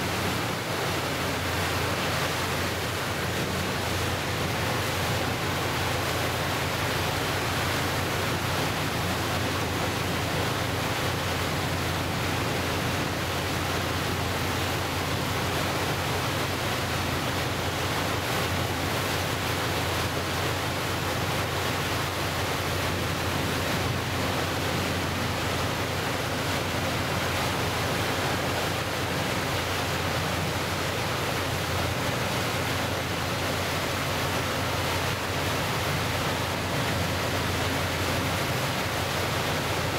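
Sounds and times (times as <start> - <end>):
low engine hum: 0.0 - 39.9
water rushing along boat hull: 0.0 - 39.9
wind: 0.0 - 39.9.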